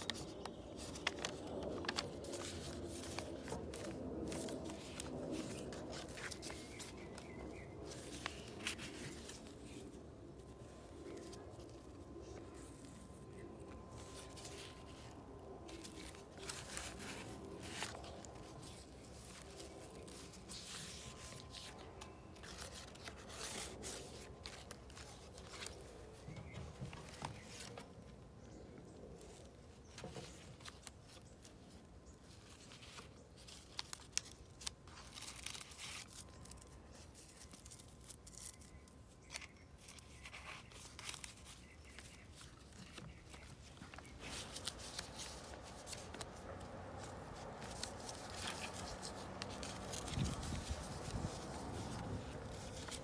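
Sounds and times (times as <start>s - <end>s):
paper pages rustling: 0.0s - 28.2s, 29.1s - 53.0s.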